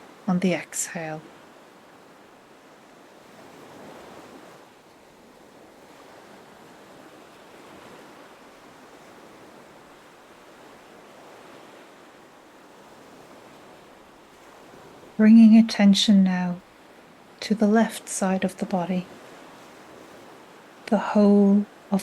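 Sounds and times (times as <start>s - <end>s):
ocean waves washing: 0.0s - 22.0s.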